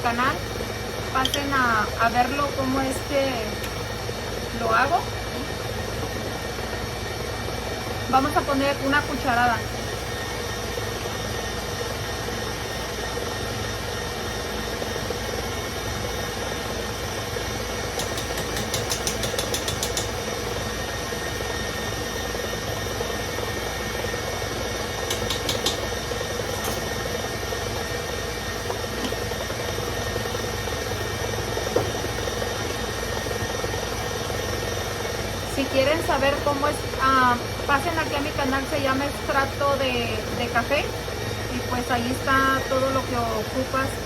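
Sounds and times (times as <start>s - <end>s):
electric mixer beating batter: 0.0s - 44.0s.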